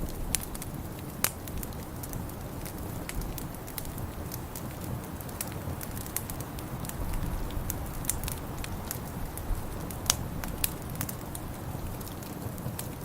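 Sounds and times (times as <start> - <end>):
steady low rumble: 0.0 - 12.1
wood fire crackling and popping: 0.0 - 13.0.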